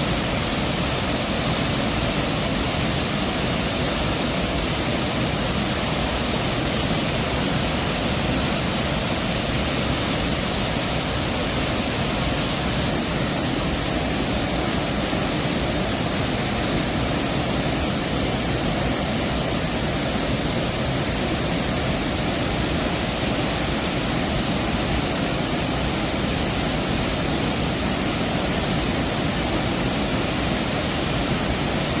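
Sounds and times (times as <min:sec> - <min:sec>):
floodwater rushing through spillway: 0:00.0 - 0:32.0.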